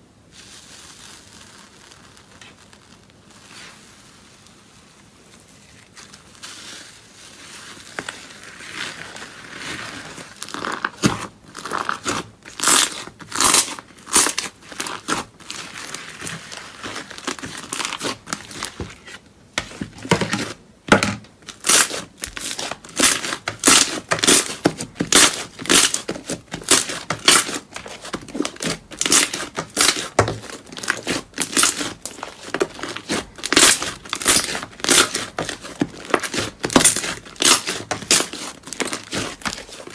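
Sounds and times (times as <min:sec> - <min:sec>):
crunchy material being crushed: 0:00.0 - 0:39.9.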